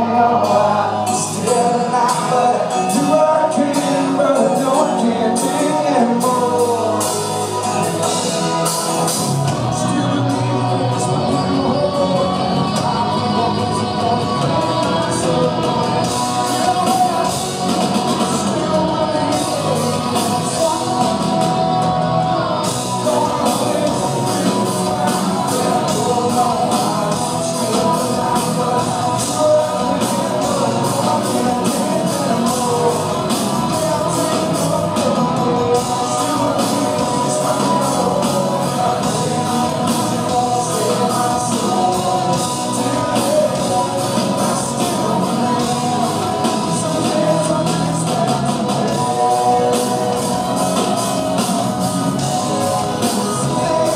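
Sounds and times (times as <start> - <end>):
drum kit: 0.0 - 53.9
electric guitar: 0.0 - 53.9
man singing: 0.0 - 53.9.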